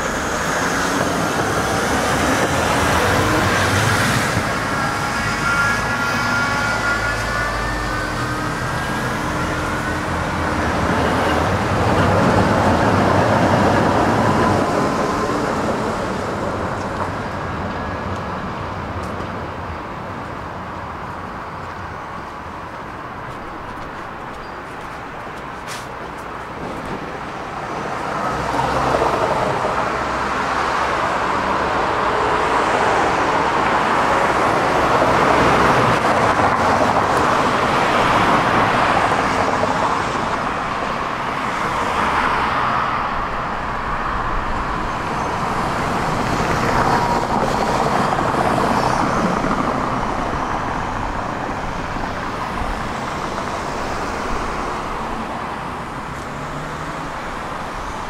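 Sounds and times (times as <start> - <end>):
tram wheels rolling on rails: 0.0 - 58.0.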